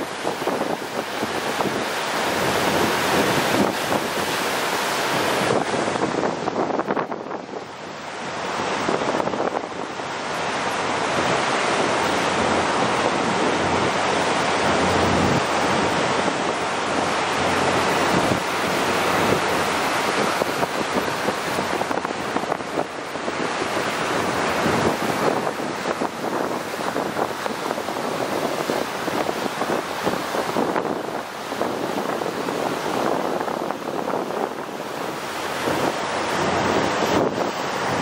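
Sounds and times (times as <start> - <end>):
water washing past hull: 0.0 - 38.0
wind buffeting microphone: 0.0 - 38.0.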